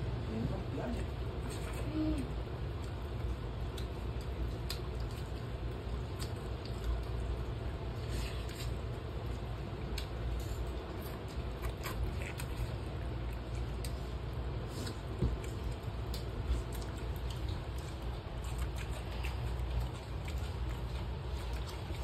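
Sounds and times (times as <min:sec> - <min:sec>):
people chewing: 0:00.4 - 0:22.0.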